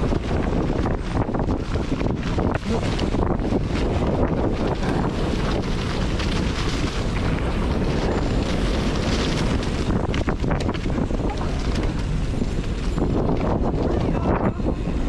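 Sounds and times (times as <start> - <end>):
bike rattling over rough trail: 0.0 - 15.0
wind buffeting microphone: 0.0 - 15.0.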